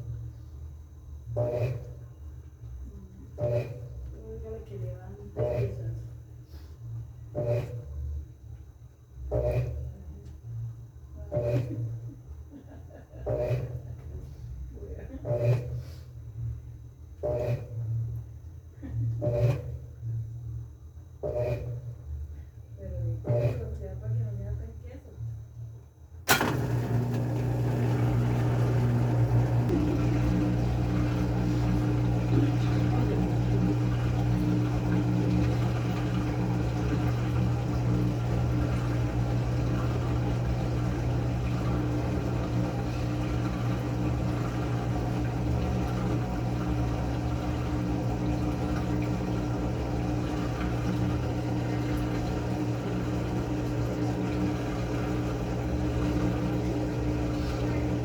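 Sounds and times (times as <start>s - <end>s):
washing machine motor humming: 0.0s - 25.6s, 26.2s - 58.0s.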